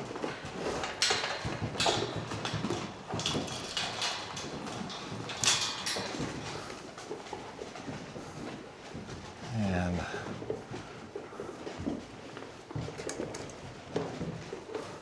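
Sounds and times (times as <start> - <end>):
sharp knocks and rustles: 0.0 - 9.5, 10.3 - 15.0
hooves clattering and scuffing: 0.0 - 15.0.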